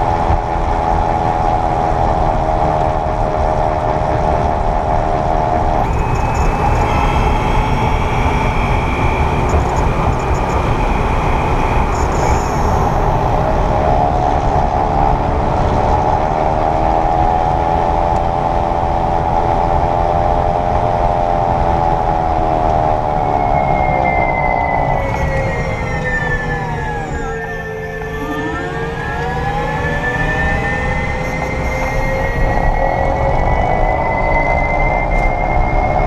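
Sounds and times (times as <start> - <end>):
electric car drivetrain whine: 0.0 - 36.0
road rumble: 0.0 - 36.0.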